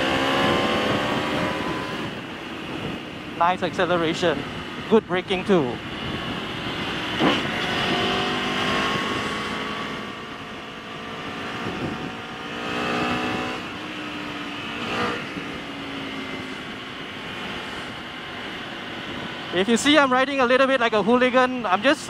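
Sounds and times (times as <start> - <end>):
wind rush: 0.0 - 19.9
motorcycle engine accelerating: 0.0 - 22.0.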